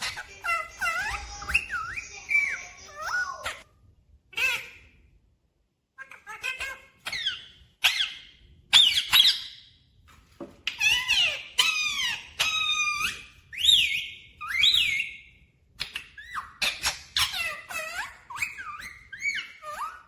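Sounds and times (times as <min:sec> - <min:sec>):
parrot whistles and squeaky calls: 0:00.0 - 0:03.7, 0:06.2 - 0:09.8, 0:10.6 - 0:20.0.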